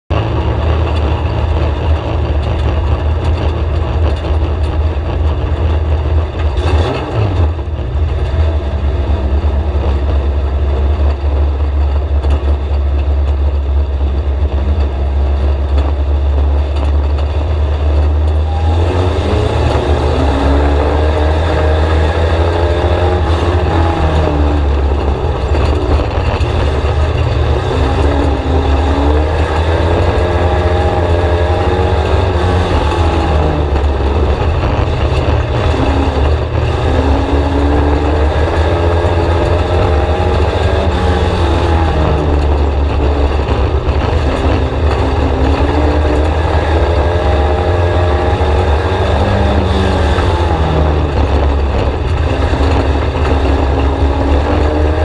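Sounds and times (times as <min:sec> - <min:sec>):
race car engine rumbling: 0:00.0 - 0:55.0.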